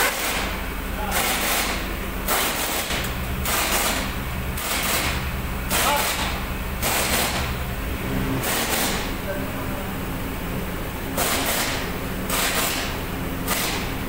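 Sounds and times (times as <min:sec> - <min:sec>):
pickup truck engine idling: 0:00.0 - 0:14.0.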